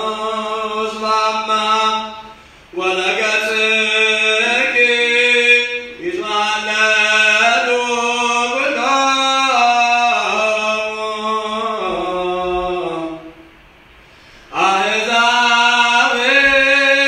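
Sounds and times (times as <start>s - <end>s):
man chanting: 0.0s - 13.5s, 14.5s - 17.0s.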